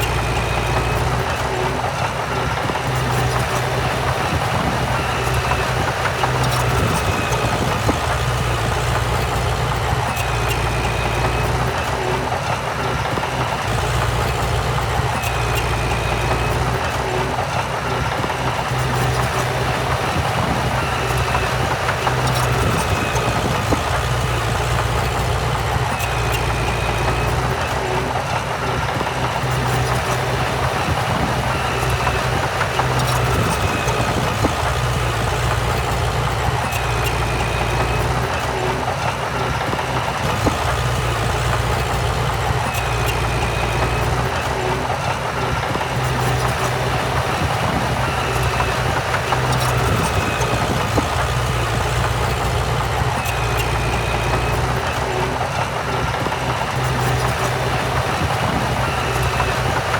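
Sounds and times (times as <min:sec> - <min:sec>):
diesel machinery engine hum: 0:00.0 - 0:59.9.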